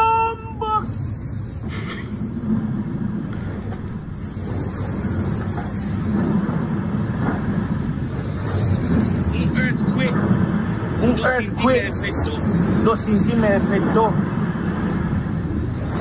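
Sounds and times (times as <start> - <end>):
earthquake rumbling: 0.8 - 16.0
water sloshing and spilling: 1.3 - 16.0.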